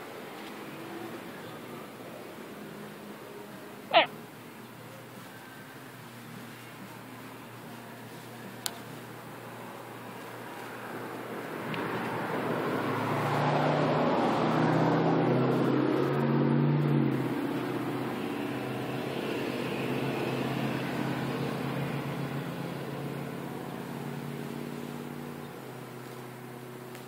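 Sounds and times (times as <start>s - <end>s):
vehicle engine passing by: 5.2s - 27.0s.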